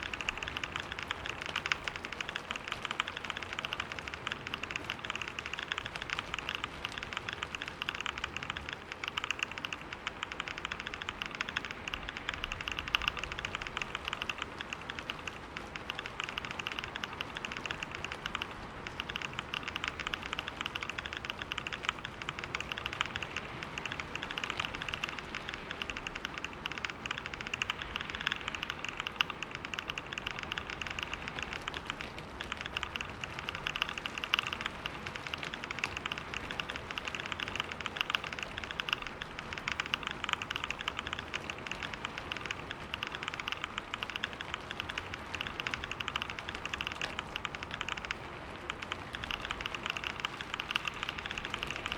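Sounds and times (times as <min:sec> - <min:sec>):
fast keyboard typing: 0:00.0 - 0:51.9.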